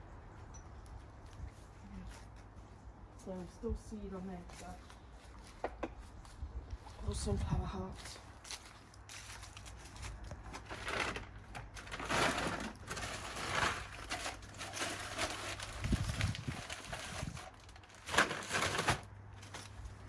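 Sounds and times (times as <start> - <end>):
rustling bird seed containers: 0.9 - 20.0.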